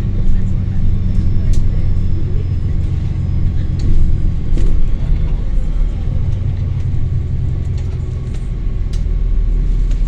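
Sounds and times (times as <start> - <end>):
diesel bus engine rumbling: 0.0 - 10.0.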